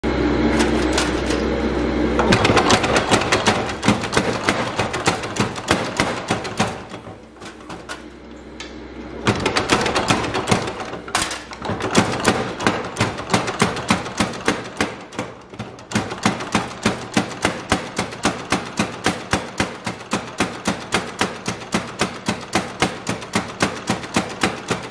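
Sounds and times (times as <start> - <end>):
power hammer humming: 0.0 - 20.9
power hammer blows: 0.1 - 8.1, 9.2 - 24.9.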